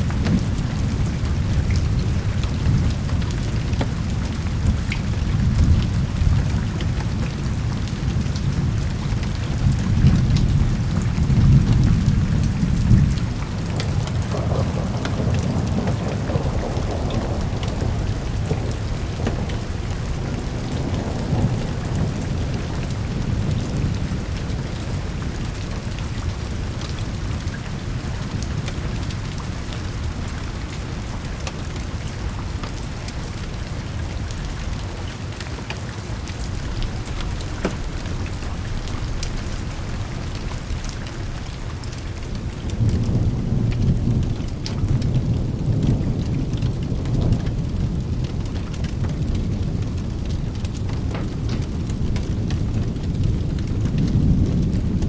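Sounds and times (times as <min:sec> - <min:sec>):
rolling thunder: 0:00.0 - 0:35.3, 0:36.1 - 0:55.0
steady rain: 0:00.0 - 0:55.0.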